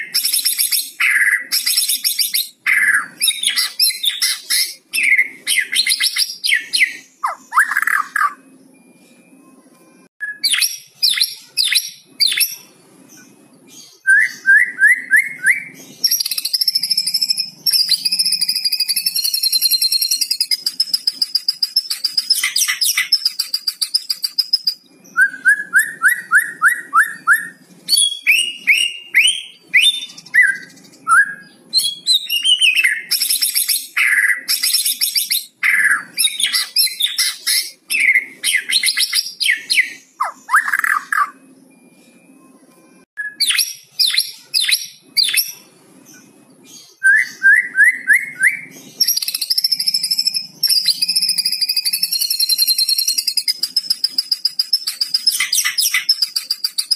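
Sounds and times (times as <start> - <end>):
bird singing varied song: 0.0 - 56.9.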